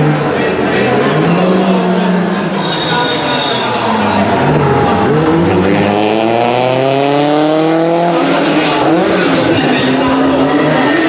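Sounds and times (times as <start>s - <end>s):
car engine accelerating hard: 1.8s - 11.0s.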